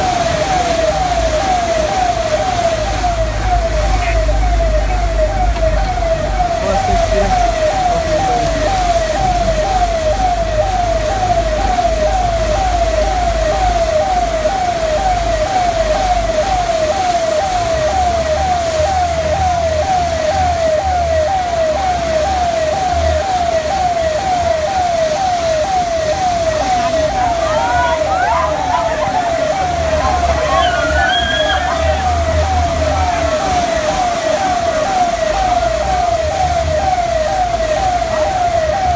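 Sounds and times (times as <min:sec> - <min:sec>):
electronic siren yelping: 0:00.0 - 0:38.9
low rumble of vehicle: 0:00.0 - 0:38.9.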